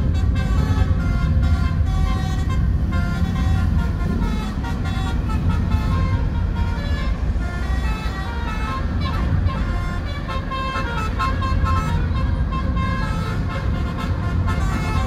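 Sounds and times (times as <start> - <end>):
multi-tone air horn tune: 0.0 - 15.0
road traffic rumble: 0.0 - 15.0.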